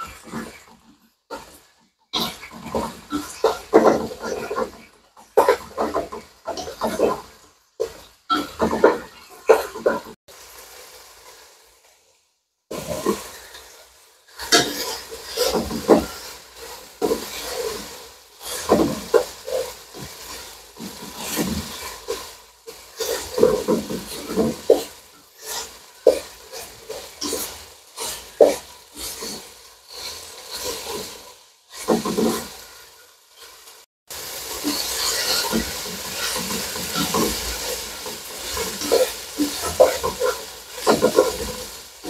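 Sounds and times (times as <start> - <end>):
wooden spoon scraping a wok: 0.0 - 12.1, 12.7 - 42.0
meat sizzling: 2.2 - 11.9, 12.7 - 42.0.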